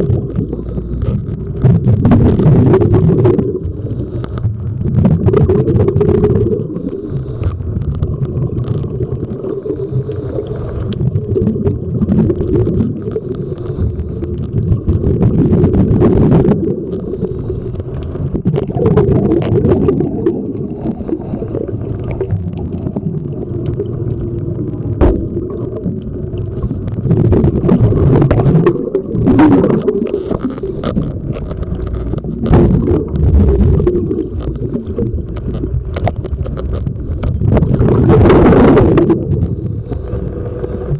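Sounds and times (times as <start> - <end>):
exhaled bubbles gurgling underwater: 0.0 - 40.9
steady low rumble: 0.0 - 40.9.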